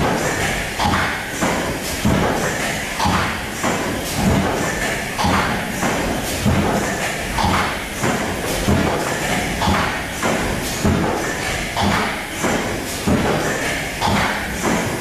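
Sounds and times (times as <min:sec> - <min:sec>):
machine knocking: 0:00.0 - 0:15.0.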